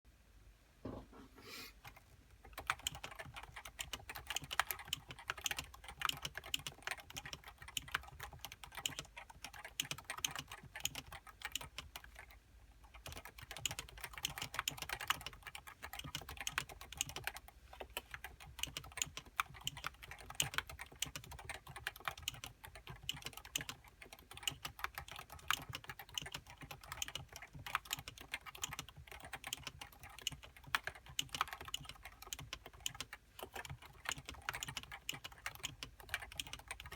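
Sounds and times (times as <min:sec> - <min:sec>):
typing on a keyboard: 0:01.8 - 0:36.9.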